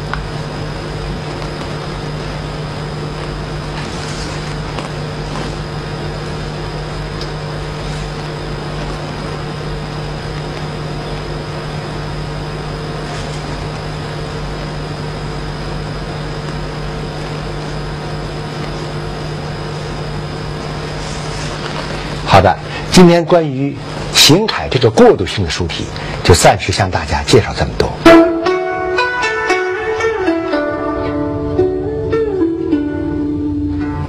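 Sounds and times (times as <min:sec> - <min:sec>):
background hum and hiss: 0:00.0 - 0:34.0.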